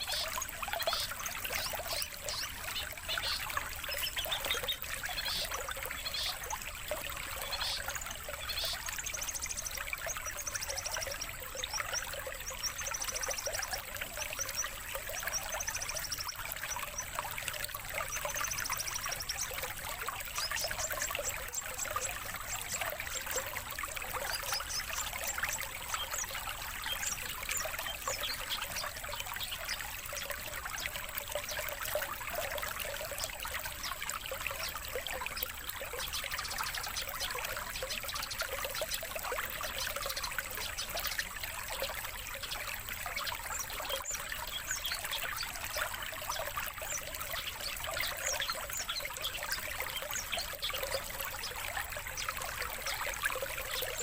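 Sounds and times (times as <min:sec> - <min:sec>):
songbird trills and chirps: 0:00.0 - 0:54.0
trickling water: 0:00.0 - 0:54.0.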